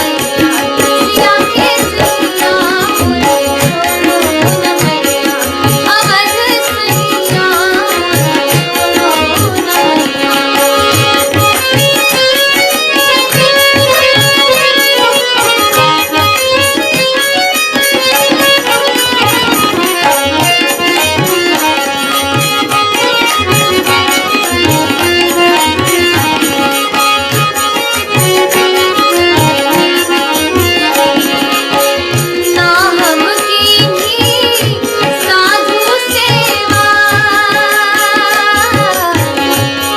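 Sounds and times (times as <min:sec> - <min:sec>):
instrumental melody: 0:00.0 - 0:39.9
tabla playing: 0:00.0 - 0:39.9.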